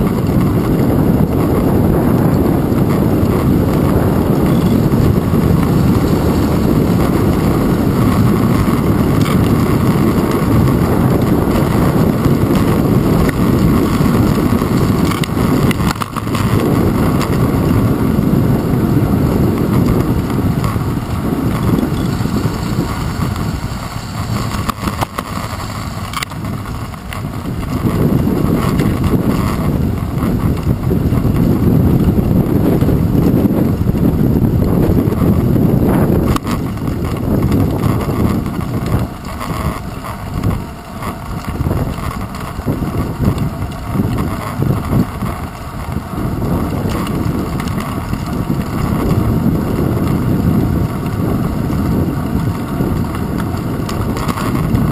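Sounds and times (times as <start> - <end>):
bicycle rumbling over rough asphalt: 0.0 - 54.9
wind noise on microphone: 0.0 - 54.9.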